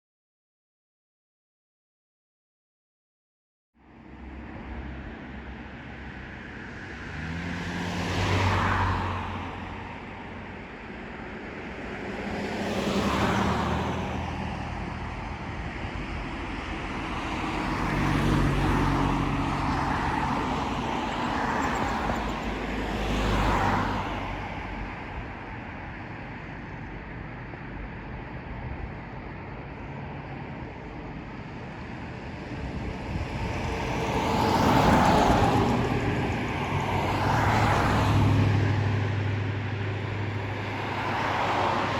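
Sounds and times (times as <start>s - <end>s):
vehicles passing by: 3.8s - 41.9s.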